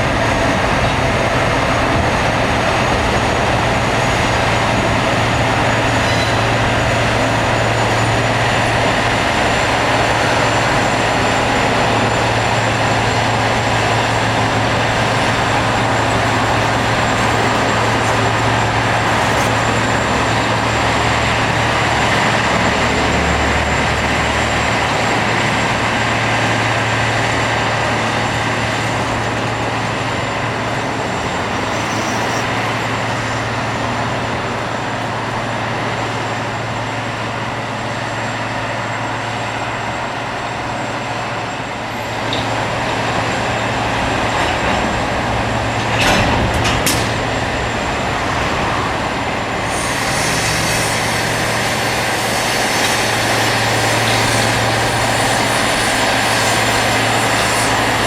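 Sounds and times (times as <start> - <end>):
rail grinder grinding: 0.0 - 58.0.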